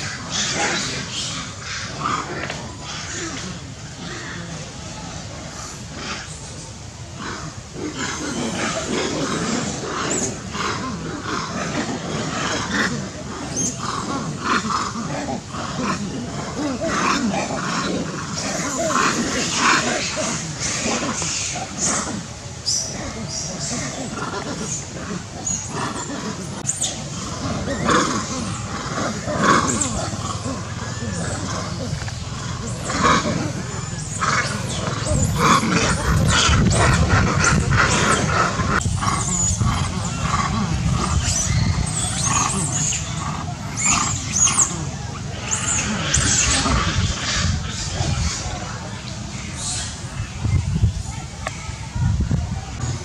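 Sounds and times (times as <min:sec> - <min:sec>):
macaques calling: 0:00.0 - 0:51.6.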